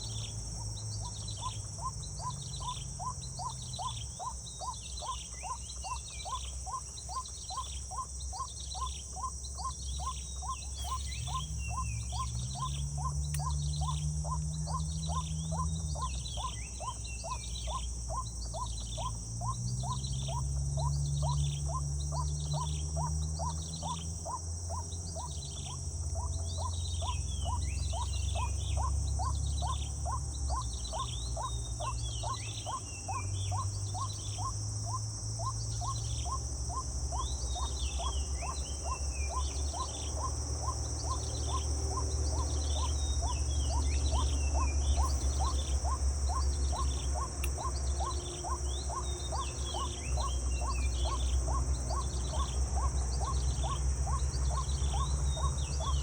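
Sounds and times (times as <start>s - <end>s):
high insect drone: 0.0s - 56.0s
even ticking: 11.1s - 56.0s.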